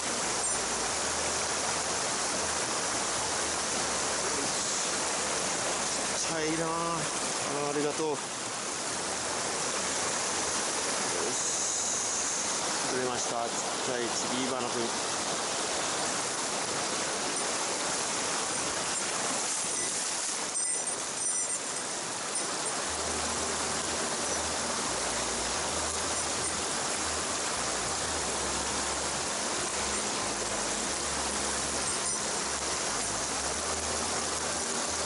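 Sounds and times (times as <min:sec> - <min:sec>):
stream rushing: 0:00.0 - 0:35.0.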